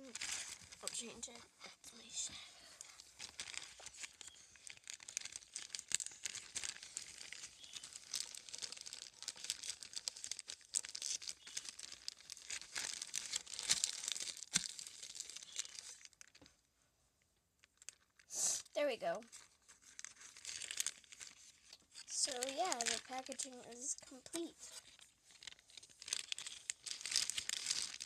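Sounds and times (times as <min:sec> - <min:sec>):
paper and tape crinkling: 0:00.0 - 0:16.6, 0:17.6 - 0:18.3, 0:19.0 - 0:28.0.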